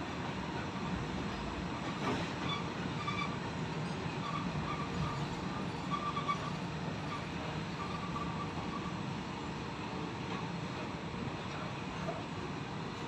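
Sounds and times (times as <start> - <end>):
train wagons rumbling: 0.0 - 13.0.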